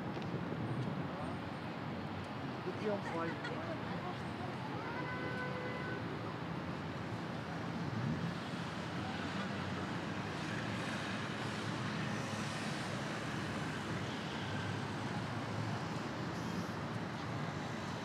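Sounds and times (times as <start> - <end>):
street traffic passing: 0.0 - 18.0.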